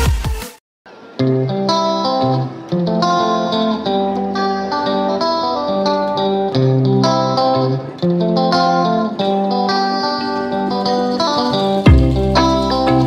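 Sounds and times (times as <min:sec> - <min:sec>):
plucked guitar melody: 0:00.9 - 0:13.0.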